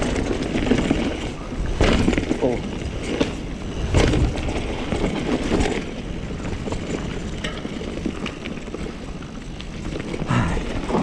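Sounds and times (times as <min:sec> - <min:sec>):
bike tyre noise on trail: 0:00.0 - 0:11.0
wind rumbling on microphone: 0:00.0 - 0:11.0.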